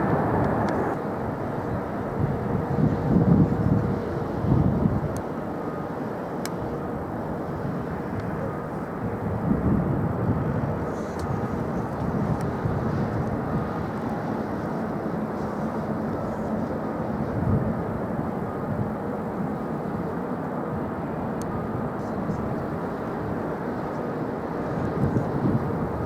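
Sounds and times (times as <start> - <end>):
jet airliner engines rumbling: 0.0 - 26.0.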